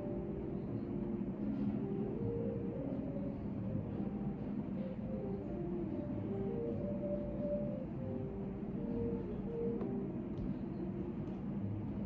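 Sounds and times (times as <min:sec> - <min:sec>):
low room hum: 0:00.0 - 0:12.0
soft slow background music: 0:00.0 - 0:12.0.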